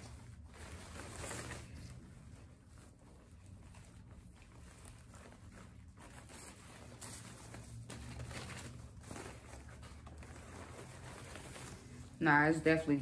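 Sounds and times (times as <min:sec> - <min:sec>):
low steady hum: 0:00.0 - 0:13.0
rustling and crinkling materials: 0:00.0 - 0:13.0.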